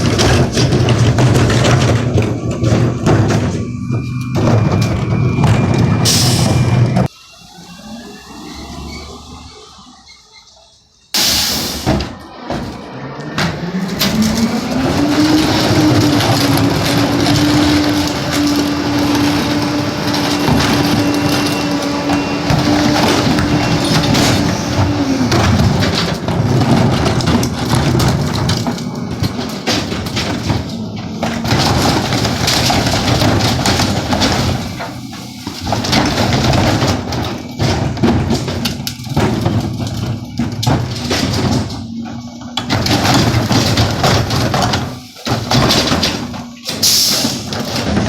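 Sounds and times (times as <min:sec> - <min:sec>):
trash cracking and snapping: 0:00.0 - 0:07.0, 0:11.8 - 0:48.0
garbage truck engine revving: 0:00.0 - 0:48.0.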